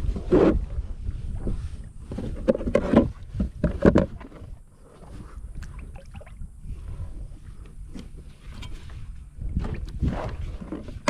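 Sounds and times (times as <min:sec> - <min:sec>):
water sloshing: 0:02.0 - 0:11.0.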